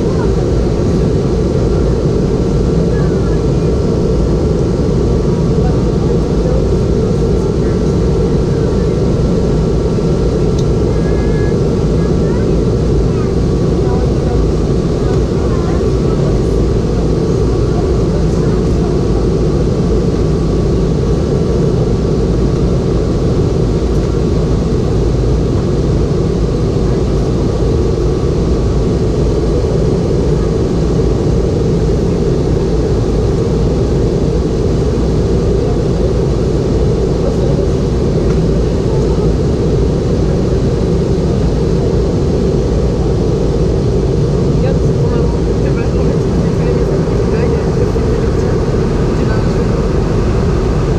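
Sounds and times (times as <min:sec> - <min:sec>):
jet engines humming: 0:00.0 - 0:50.9.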